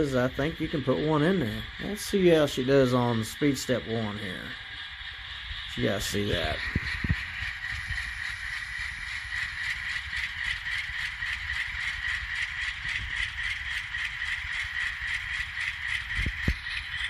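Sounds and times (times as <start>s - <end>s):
model diesel engine through small speaker: 0.0s - 17.0s.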